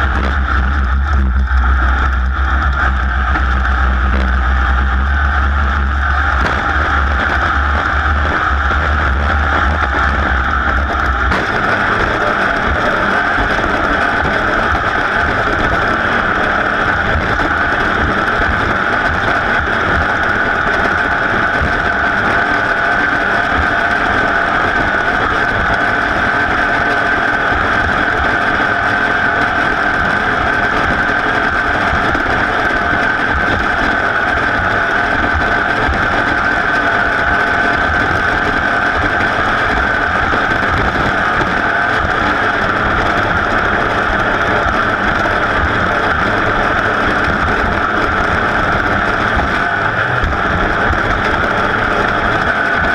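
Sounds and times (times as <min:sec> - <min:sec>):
race engine running flat out: 0:00.0 - 0:52.9.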